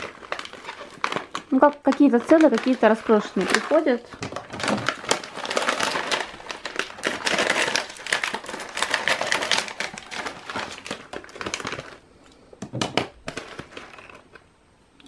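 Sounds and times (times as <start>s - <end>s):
packaging crinkling: 0.0s - 14.5s.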